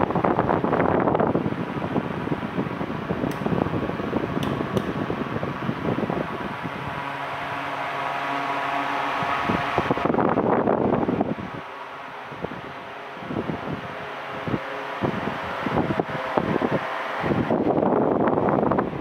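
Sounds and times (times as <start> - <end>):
electric fan blowing air: 0.0 - 19.0
motor hum: 0.0 - 19.0.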